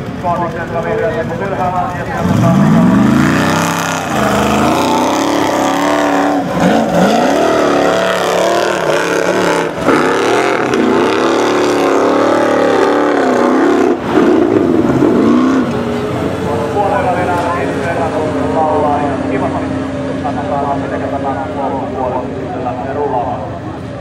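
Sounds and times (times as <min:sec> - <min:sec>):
buggy engine revving hard: 0:02.0 - 0:22.3.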